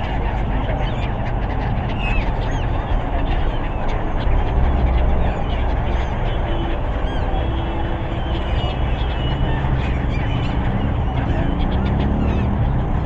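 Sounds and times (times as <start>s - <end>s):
loud steady background noise: 0.0s - 13.0s
seagulls calling: 0.0s - 13.0s.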